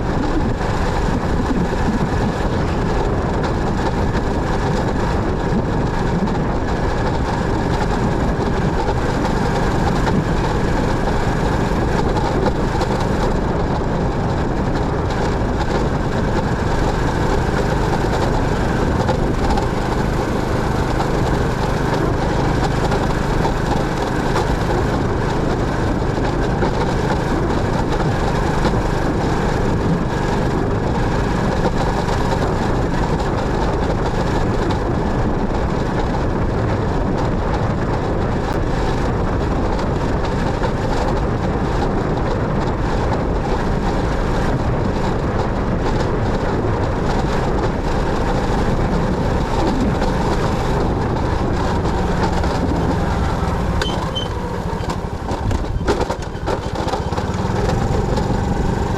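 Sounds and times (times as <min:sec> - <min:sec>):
motorcycle engine: 0:00.0 - 0:58.9
road noise: 0:00.0 - 0:58.9.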